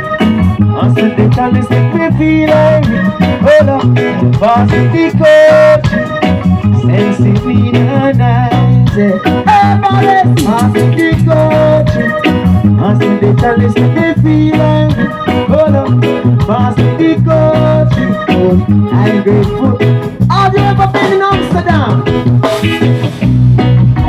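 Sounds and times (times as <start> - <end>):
man singing: 0.0 - 22.3
reggae band playing: 0.0 - 24.0.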